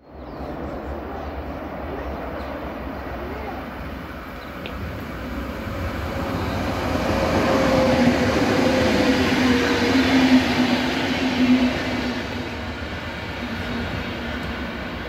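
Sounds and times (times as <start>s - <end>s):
train passing: 0.1s - 15.0s.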